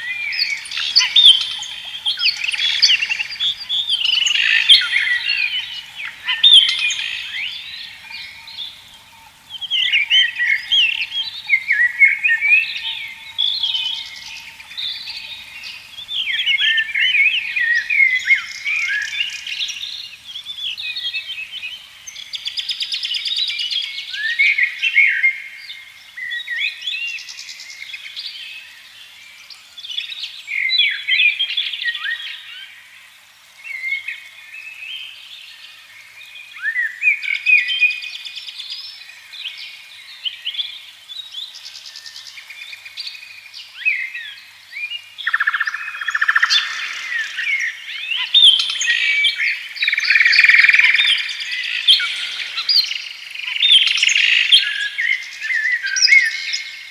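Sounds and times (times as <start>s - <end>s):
songbirds singing and chirping: 0.0s - 33.0s, 33.6s - 56.9s.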